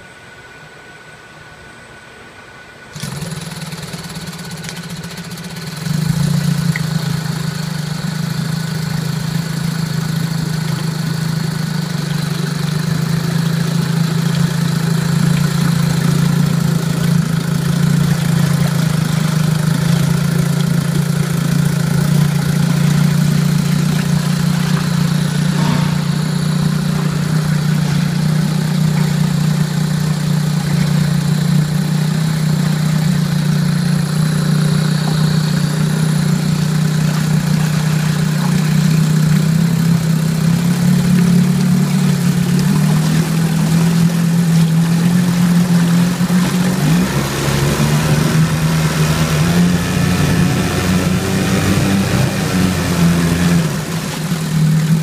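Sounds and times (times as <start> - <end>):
propeller churning water: 2.8 - 55.0
outboard motor running: 2.9 - 55.0.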